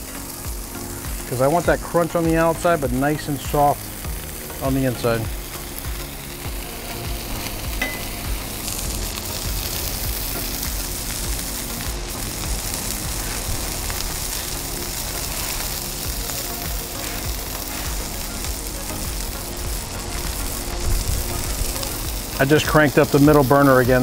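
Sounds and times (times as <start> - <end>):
food sizzling on a griddle: 0.0 - 24.0
soft music: 0.0 - 24.0.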